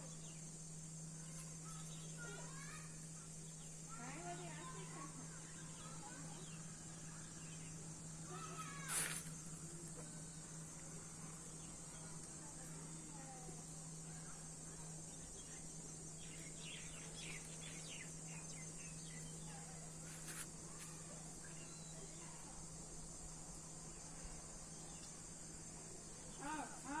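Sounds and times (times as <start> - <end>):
faint chirps: 0.0 - 27.0
insect chorus trilling: 0.0 - 27.0.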